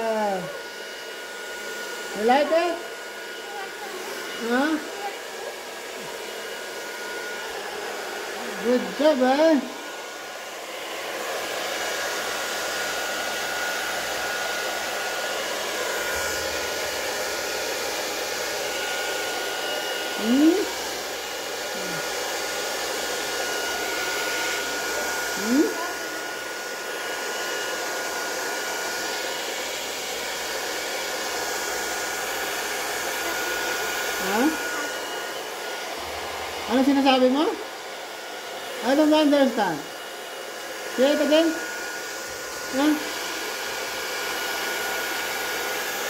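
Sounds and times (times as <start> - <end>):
hair dryer blowing: 0.0 - 46.0.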